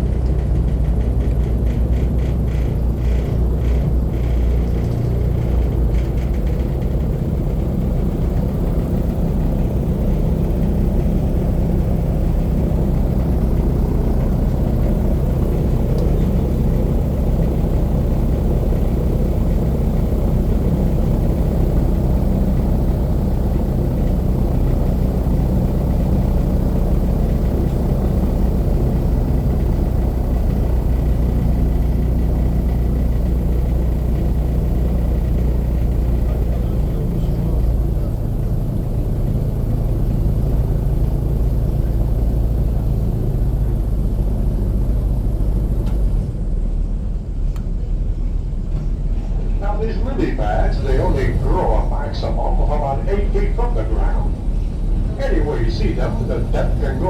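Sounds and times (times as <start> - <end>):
airboat engine droning: 0.0 - 57.0.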